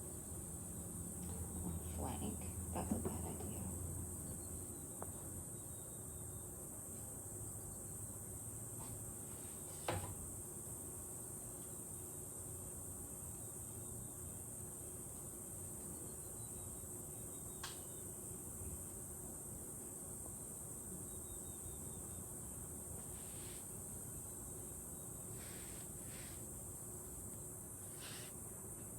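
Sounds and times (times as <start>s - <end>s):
insects chirring: 0.0s - 28.9s.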